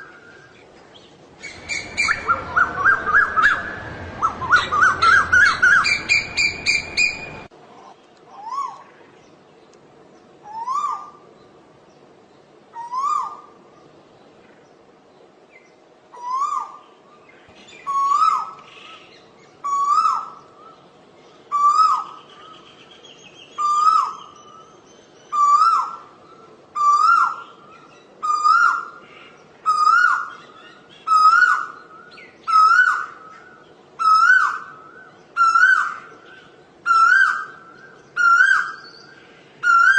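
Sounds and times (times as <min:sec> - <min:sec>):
bird calling: 0:00.0 - 0:09.4, 0:10.4 - 0:11.6, 0:12.7 - 0:14.6, 0:15.6 - 0:39.9.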